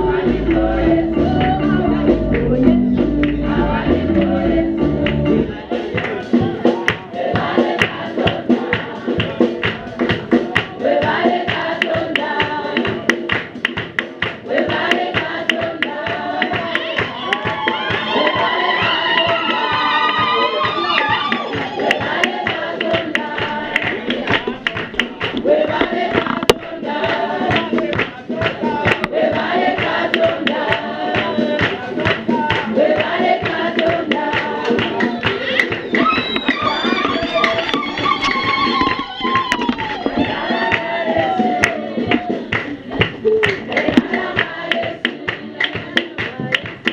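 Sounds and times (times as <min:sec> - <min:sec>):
congregation singing: 0:00.0 - 0:46.9
sharp percussive beat: 0:00.0 - 0:46.9.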